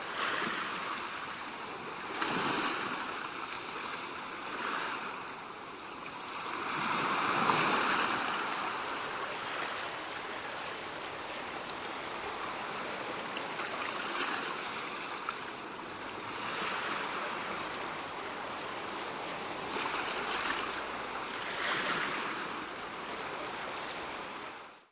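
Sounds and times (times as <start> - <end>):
ocean waves breaking: 0.0 - 24.7.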